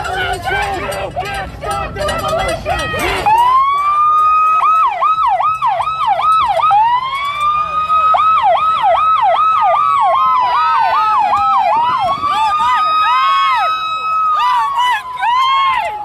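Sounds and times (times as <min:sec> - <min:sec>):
police siren wailing and yelping: 0:01.6 - 0:16.0.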